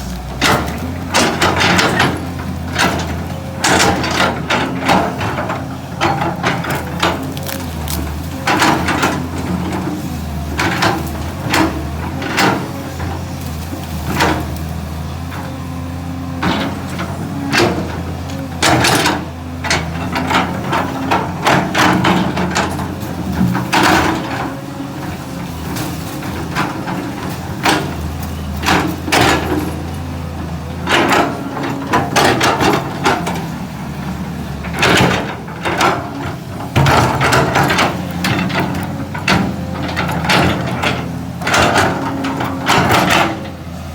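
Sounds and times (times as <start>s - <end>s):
excavator diesel engine: 0.0s - 43.9s
wood cracking and bucket clanks: 0.0s - 43.9s.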